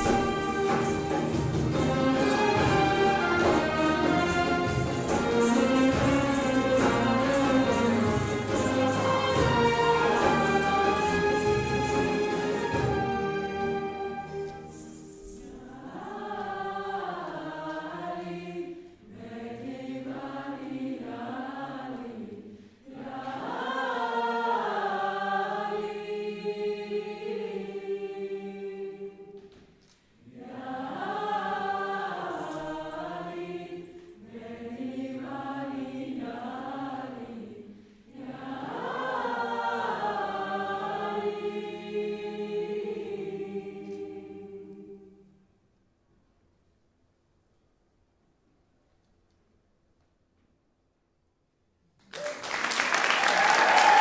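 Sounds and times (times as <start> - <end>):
choir singing slow melody: 0.0 - 45.6.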